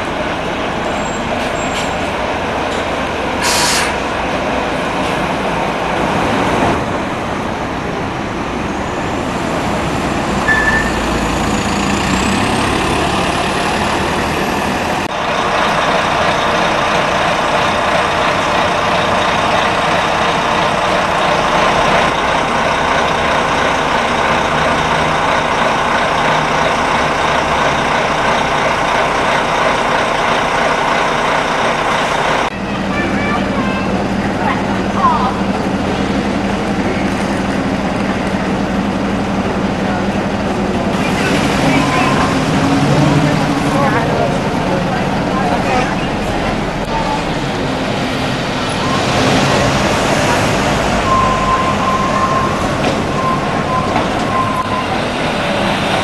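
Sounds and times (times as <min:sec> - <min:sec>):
bus engines running: 0:00.0 - 0:56.0
road traffic: 0:00.0 - 0:56.0.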